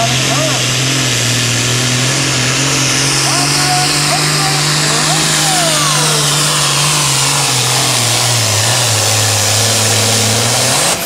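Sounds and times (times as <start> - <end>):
diesel tractor engine under load: 0.0 - 11.0.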